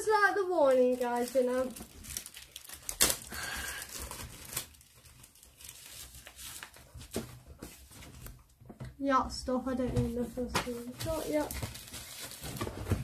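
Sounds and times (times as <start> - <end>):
packaging rustling and crinkling: 0.4 - 8.8, 10.1 - 13.0.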